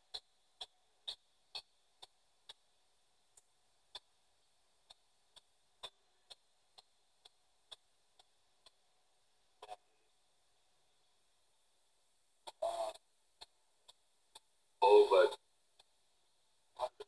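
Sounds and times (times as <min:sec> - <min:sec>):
faint static clicks: 0:00.0 - 0:17.0.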